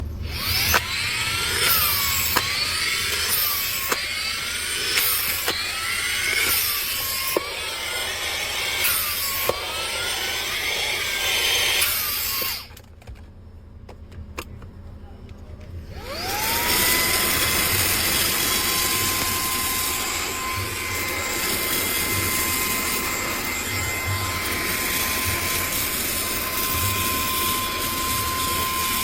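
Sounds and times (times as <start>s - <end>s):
cordless vacuum cleaner whine: 0.0s - 12.9s, 15.9s - 29.0s.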